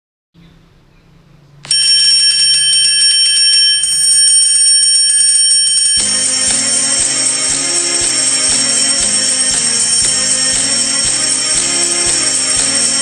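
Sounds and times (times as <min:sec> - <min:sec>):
small bell ringing rapidly: 0:01.7 - 0:13.0.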